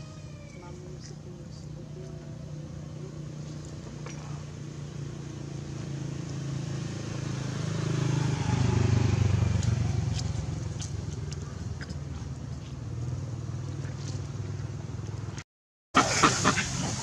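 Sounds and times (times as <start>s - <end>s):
vehicle passing on road: 1.2s - 15.4s.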